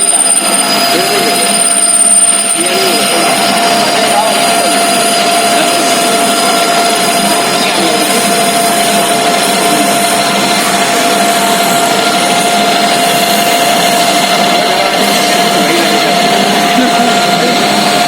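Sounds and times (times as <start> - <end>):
lathe running with whine: 0.0 - 18.0.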